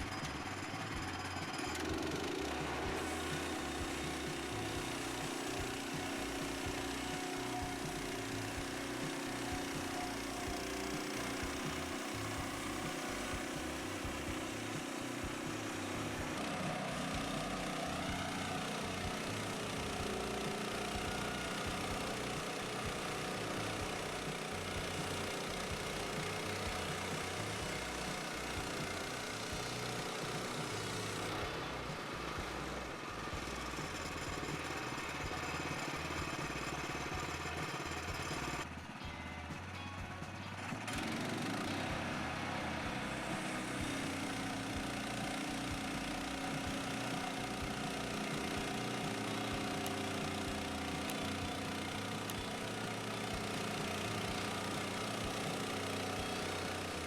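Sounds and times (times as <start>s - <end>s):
background music: 0.0s - 57.0s
sawmill engine running: 0.0s - 57.0s.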